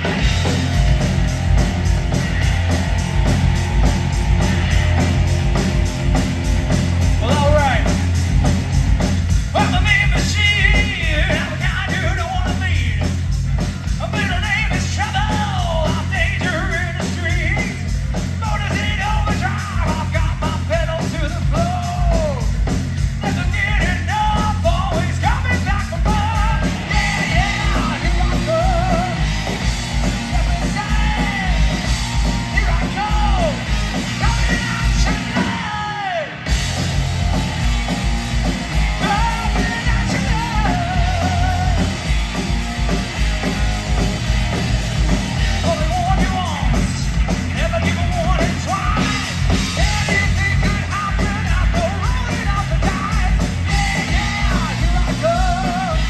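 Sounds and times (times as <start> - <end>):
bass guitar: 0.0 - 56.0
drums: 0.0 - 56.0.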